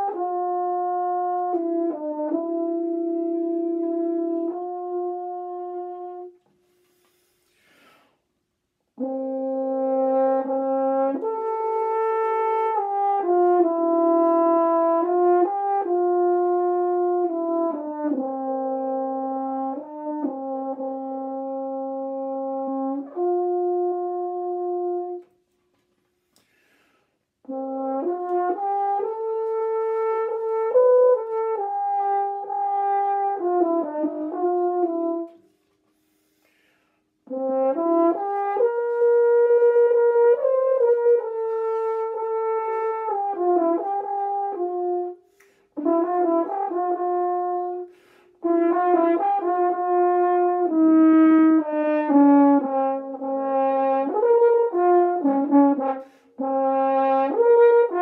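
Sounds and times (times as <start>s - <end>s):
french horn slow melody: 0.0s - 8.0s, 8.7s - 58.0s.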